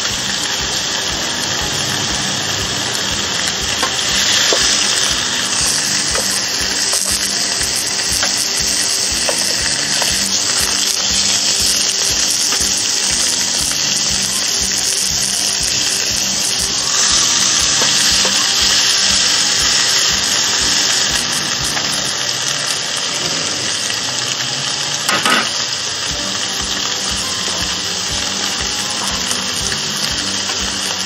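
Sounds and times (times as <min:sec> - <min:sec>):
background music: 0:00.0 - 0:31.0
steak sizzling on a grill: 0:00.0 - 0:31.0.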